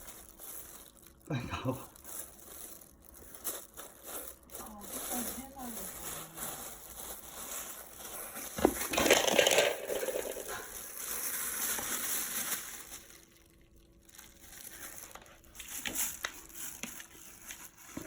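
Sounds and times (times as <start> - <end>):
kitten rustling in trash can: 2.4 - 13.2, 14.1 - 18.0.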